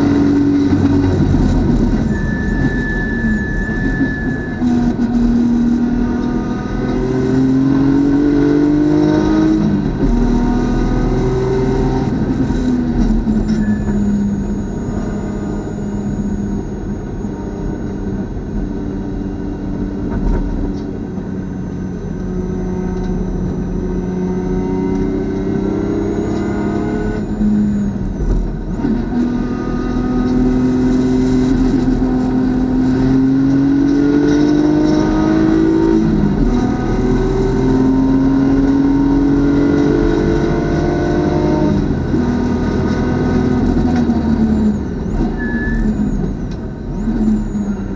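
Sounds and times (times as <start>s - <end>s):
race car engine accelerating: 0.0s - 47.9s.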